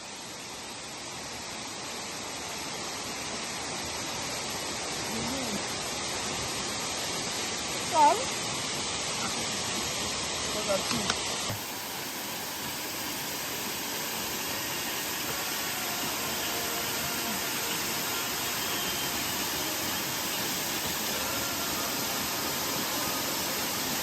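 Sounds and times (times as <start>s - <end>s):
waterfall rushing water: 0.0s - 24.0s.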